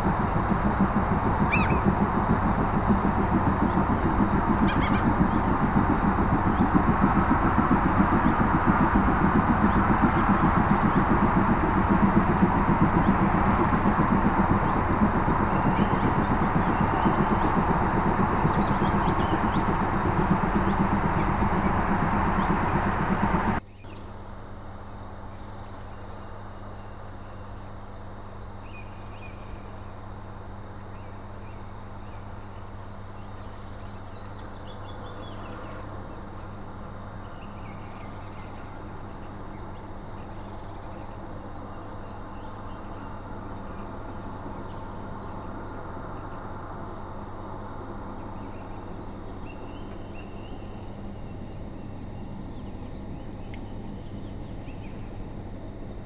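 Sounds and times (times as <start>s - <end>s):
distant steam train rumble: 0.0s - 56.0s
small birds chirping: 0.0s - 56.0s
steady low hum: 0.0s - 56.0s.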